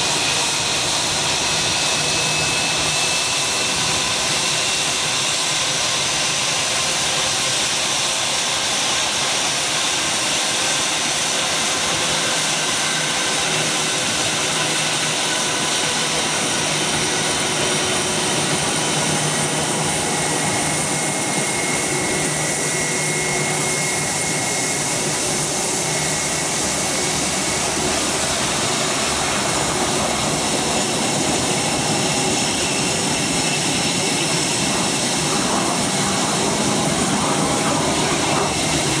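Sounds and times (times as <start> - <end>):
jet engine whine: 0.0 - 39.0.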